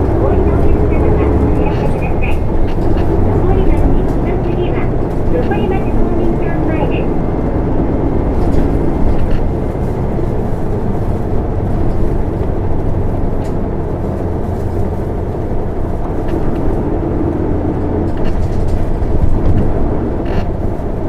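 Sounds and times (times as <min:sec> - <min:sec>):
bus diesel engine running: 0:00.0 - 0:21.0
road noise: 0:00.0 - 0:21.0.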